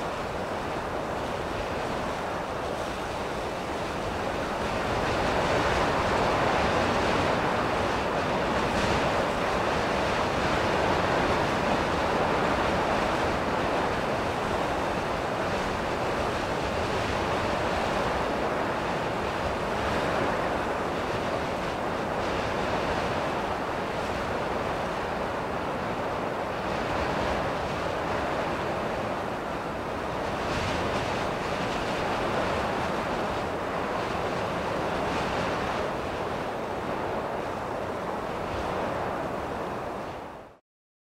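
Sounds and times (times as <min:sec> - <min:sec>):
ocean surf on shore: 0:00.0 - 0:40.6.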